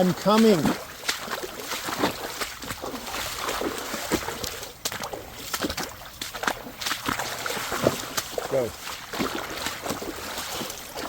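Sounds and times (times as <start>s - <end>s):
running water rushing: 0.0s - 11.0s
water sloshing and splashing: 0.0s - 11.0s.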